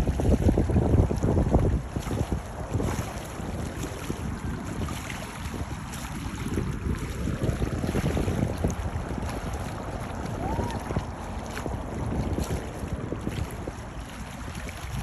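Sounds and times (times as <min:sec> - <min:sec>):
sea waves: 0:00.0 - 0:15.0
wind buffeting microphone: 0:00.0 - 0:15.0.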